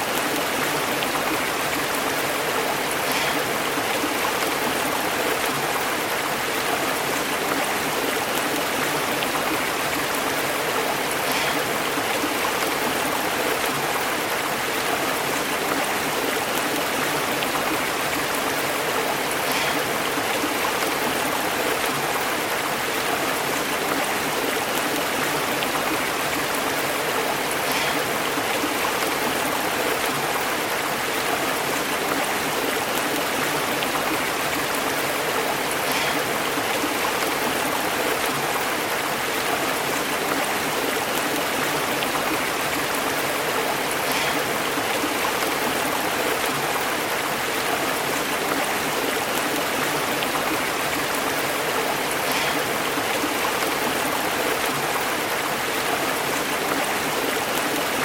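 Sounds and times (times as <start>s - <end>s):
water running over rocks: 0.0s - 58.0s.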